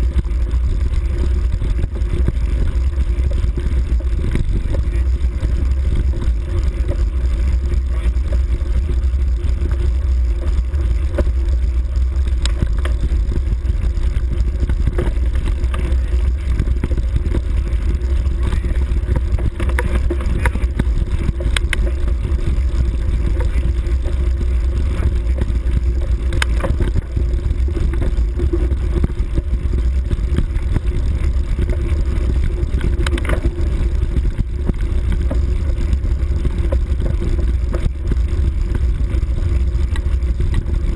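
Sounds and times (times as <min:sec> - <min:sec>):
bike knocks and rattles: 0:00.0 - 0:40.9
bike riding over grassy track: 0:00.0 - 0:40.9
wind buffeting microphone: 0:00.0 - 0:40.9.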